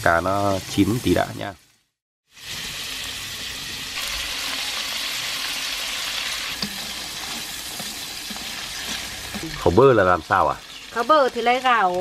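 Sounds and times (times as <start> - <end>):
fish sizzling in a wok: 0.0 - 12.0.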